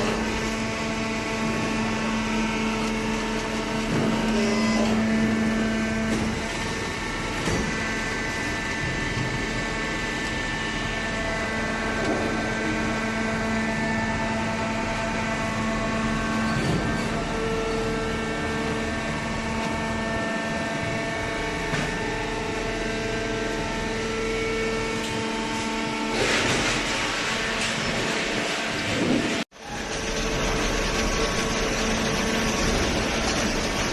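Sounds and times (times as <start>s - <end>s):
shredding machinery droning: 0.0s - 33.9s.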